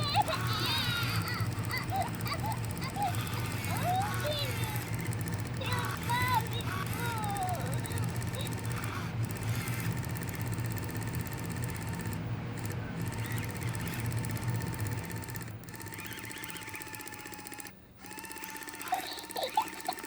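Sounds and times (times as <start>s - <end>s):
doll mechanism clicking and whirring: 0.0s - 20.0s.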